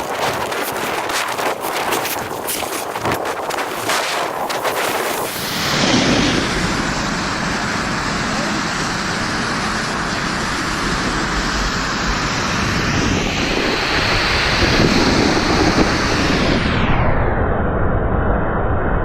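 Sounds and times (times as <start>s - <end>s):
snowboard sliding over snow: 0.0s - 16.7s
wind rushing on microphone: 0.0s - 19.0s.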